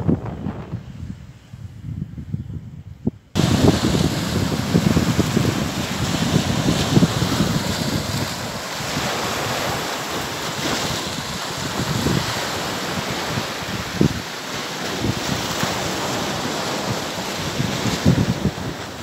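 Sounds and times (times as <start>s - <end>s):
wind buffeting microphone: 0.0s - 19.0s
sea waves washing through boulders: 3.4s - 19.0s.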